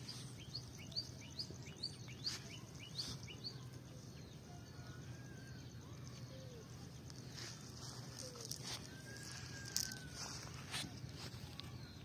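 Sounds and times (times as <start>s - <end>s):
bird chirping: 0.0s - 12.0s
low steady background hum: 0.0s - 12.0s.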